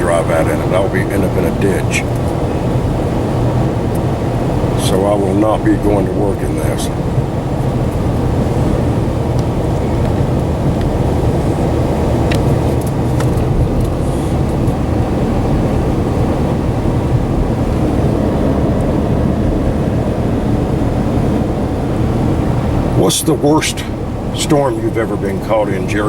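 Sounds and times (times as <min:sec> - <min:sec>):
tyre and engine drone in cab: 0:00.0 - 0:26.0.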